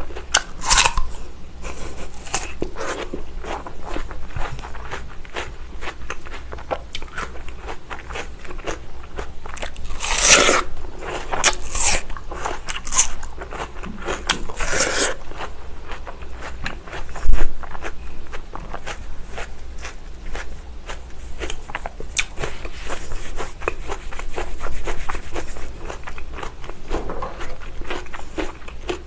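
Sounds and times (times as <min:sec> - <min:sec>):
crunching watermelon bites: 0:00.0 - 0:29.0.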